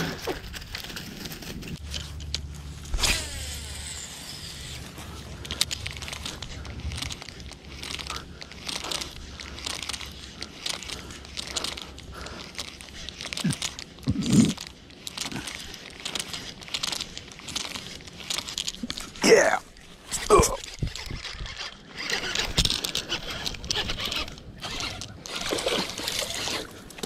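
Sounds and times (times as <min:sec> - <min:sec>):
fishing reel clicking: 0:01.8 - 0:27.0.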